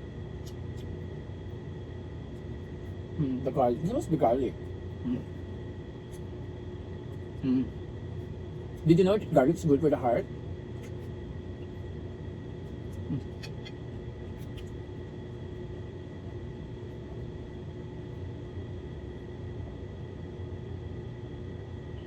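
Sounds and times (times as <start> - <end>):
faint constant tones: 0.0 - 22.0
low machine hum: 0.0 - 22.0.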